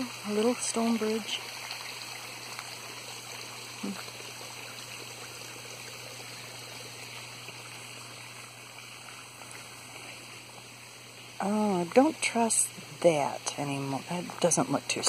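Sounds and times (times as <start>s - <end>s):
stream water trickling: 0.0s - 15.0s.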